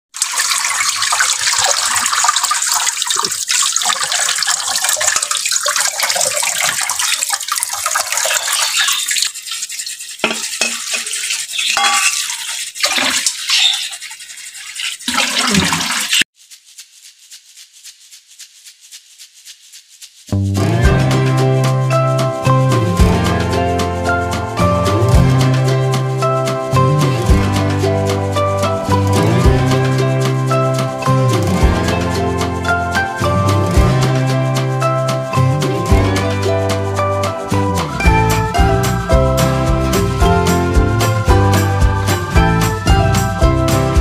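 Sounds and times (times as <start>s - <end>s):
faint water patter: 0.1s - 44.0s
water running and splashing: 0.1s - 44.0s.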